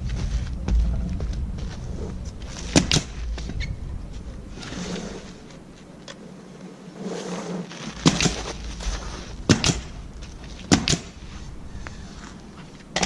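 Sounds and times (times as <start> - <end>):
low rumble: 0.0 - 6.5, 8.4 - 12.8.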